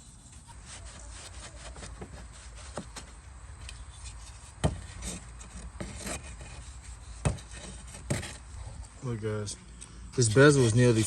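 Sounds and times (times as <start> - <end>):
cloth rubbing on chrome: 0.0 - 8.8, 10.3 - 11.0.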